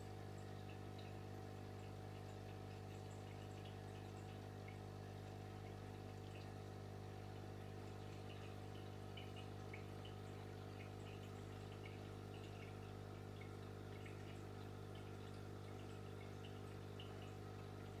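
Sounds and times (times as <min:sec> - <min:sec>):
aquarium pump humming: 0:00.0 - 0:18.0
water trickling and bubbling: 0:00.0 - 0:18.0.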